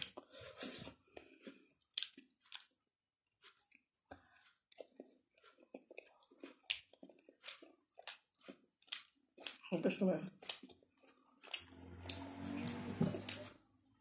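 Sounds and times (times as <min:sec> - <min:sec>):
wet chewing: 0:00.0 - 0:02.8, 0:03.4 - 0:13.5.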